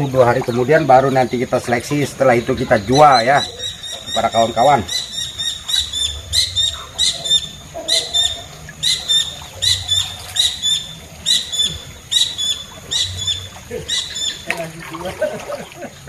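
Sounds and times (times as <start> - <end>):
bird calling: 0.0 - 16.0.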